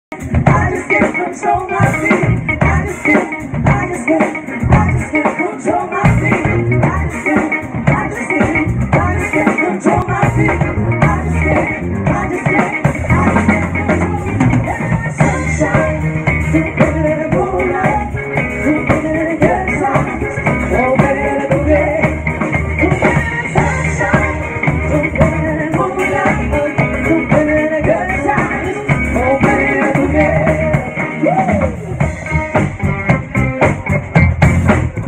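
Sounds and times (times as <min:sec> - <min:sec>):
person singing: 0:00.1 - 0:32.8
drum kit beat: 0:00.1 - 0:35.0
live band music: 0:00.1 - 0:35.0.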